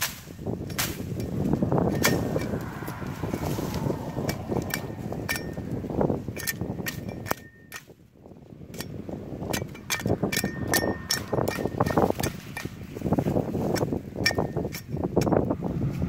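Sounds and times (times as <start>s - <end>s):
rustling leaves and grass: 0.0s - 7.0s, 8.2s - 14.7s.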